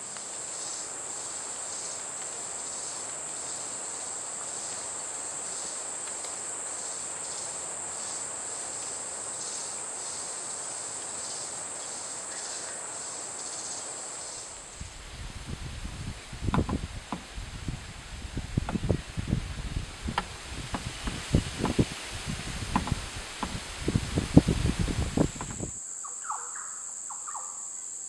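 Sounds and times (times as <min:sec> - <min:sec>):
insects high-pitched drone: 0:00.0 - 0:28.0
soft pulsing insect call: 0:00.0 - 0:28.0.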